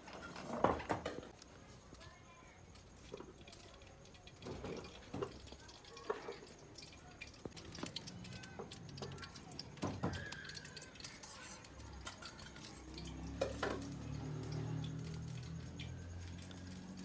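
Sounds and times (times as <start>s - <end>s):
steel utensils and pots clinking: 2.7s - 17.0s.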